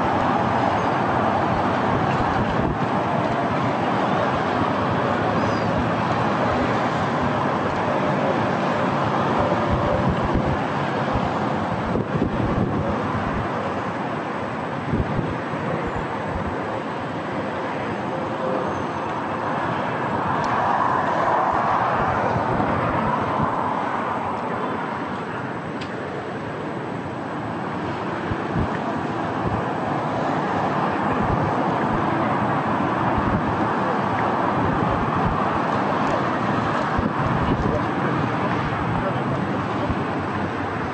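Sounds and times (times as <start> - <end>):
wind buffeting microphone: 0.0 - 16.8, 20.1 - 24.3, 27.4 - 40.9
city traffic noise: 0.0 - 40.9.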